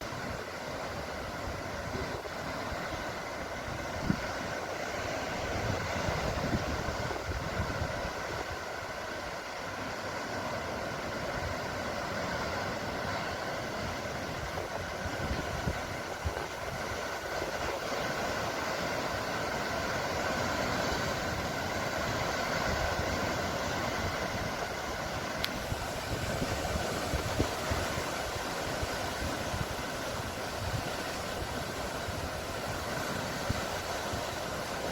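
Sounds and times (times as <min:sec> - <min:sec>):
sea waves washing: 0:00.0 - 0:34.9.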